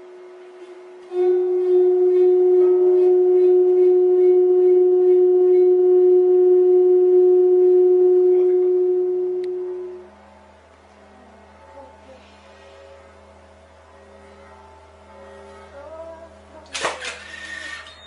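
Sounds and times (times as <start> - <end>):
steady pitched tone: 0.0 - 16.6.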